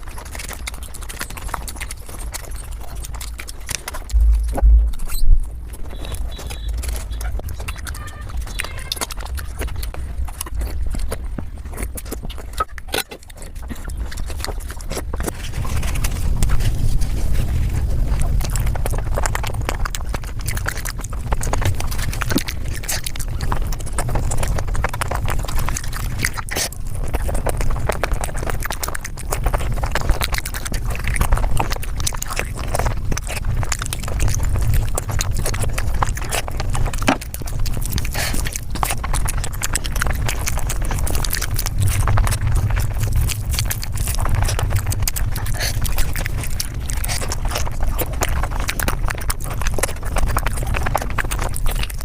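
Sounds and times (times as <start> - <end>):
rapid chewing and smacking: 0.0 - 52.0
steady low rumble: 1.7 - 12.8, 13.6 - 52.0.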